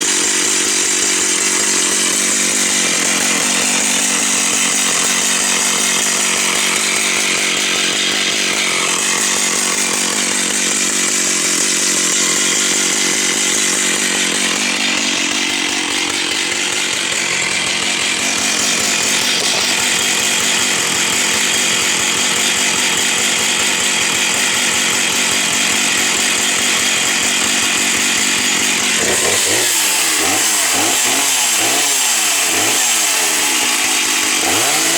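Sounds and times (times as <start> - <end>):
chainsaw cutting a log: 0.0 - 34.9.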